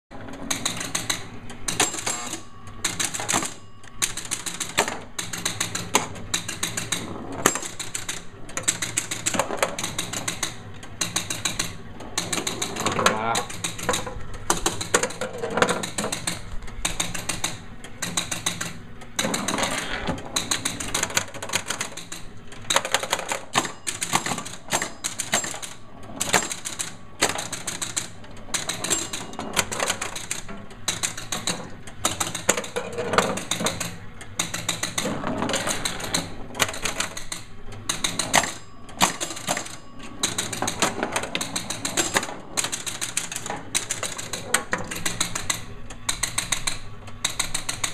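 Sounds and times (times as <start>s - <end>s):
pinball relays clicking: 0.1s - 47.9s.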